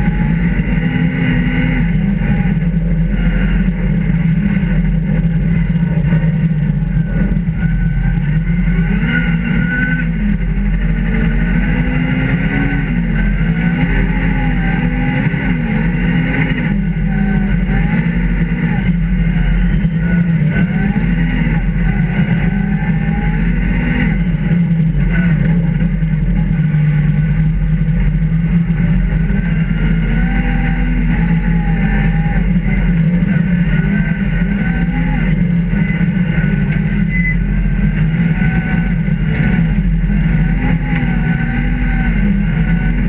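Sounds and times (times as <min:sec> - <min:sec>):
rally car engine revving: 0:00.0 - 0:43.0
road and tyre noise: 0:00.0 - 0:43.0.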